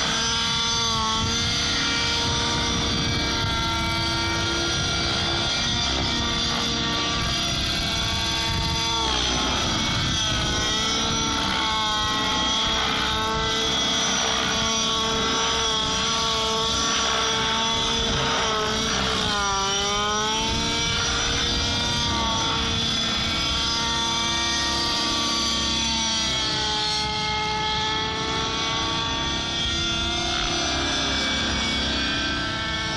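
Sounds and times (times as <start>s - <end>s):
model helicopter engine and rotor: 0.0s - 32.9s.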